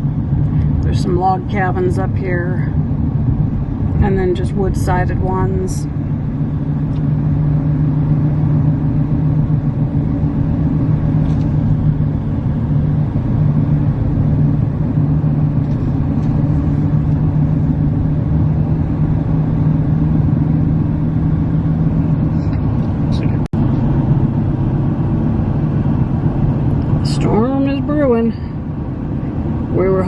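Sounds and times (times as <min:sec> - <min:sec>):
car engine hum: 0:00.0 - 0:30.0
road noise: 0:00.0 - 0:30.0.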